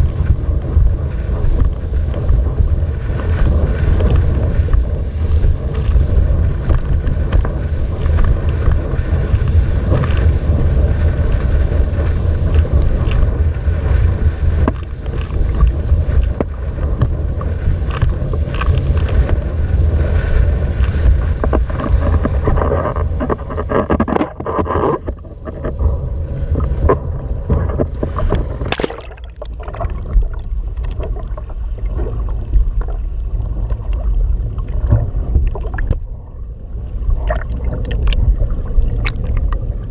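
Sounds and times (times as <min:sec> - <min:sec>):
water rushing past board: 0:00.0 - 0:39.9
wind buffeting microphone: 0:00.0 - 0:39.9.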